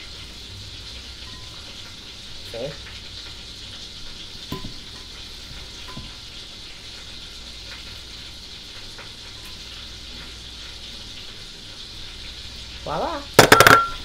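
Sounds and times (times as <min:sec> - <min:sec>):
butter and oil sizzling in a frying pan: 0:00.0 - 0:14.0.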